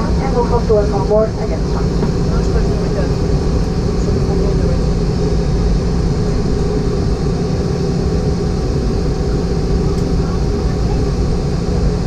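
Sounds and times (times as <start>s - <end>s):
airplane cabin rumble and hum: 0.0s - 12.0s.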